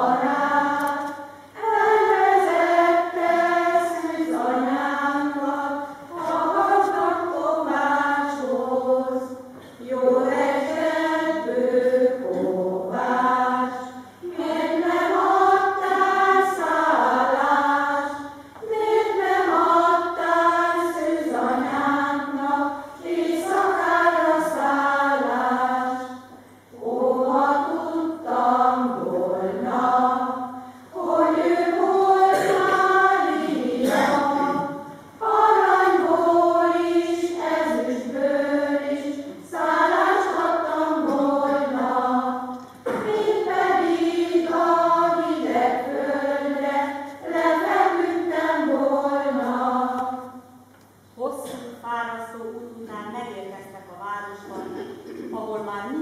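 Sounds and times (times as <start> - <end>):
women's and girls' choir singing: 0.0 - 50.7.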